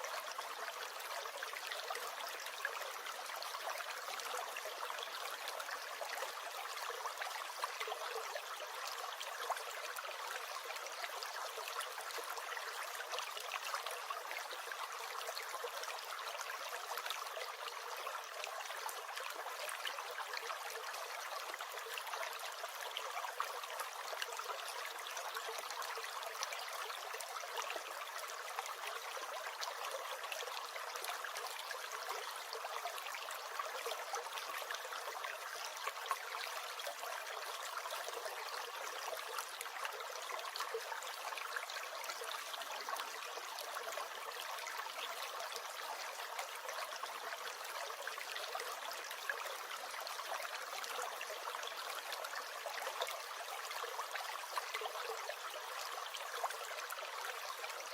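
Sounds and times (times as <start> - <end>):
small stream gurgling: 0.0 - 57.9.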